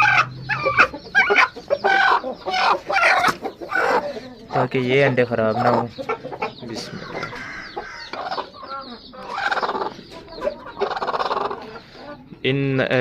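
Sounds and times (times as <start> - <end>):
hen clucking: 0.0 - 13.0.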